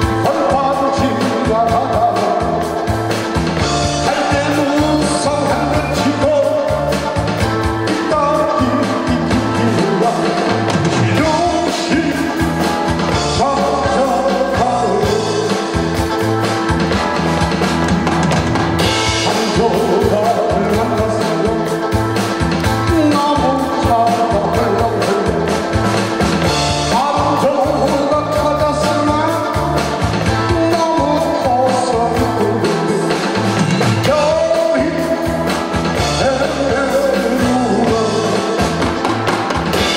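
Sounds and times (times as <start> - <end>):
man singing into a microphone: 0.0 - 2.9, 3.6 - 15.9, 19.1 - 22.0, 22.6 - 25.8, 26.8 - 39.0
amplified band with drums: 0.0 - 39.9.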